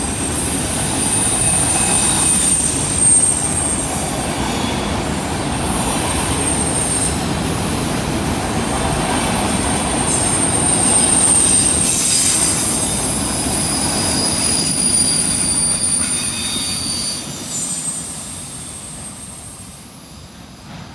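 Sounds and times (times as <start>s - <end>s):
high wheel squeals: 0.0s - 20.6s
train wheels rumbling on rail: 0.0s - 20.9s.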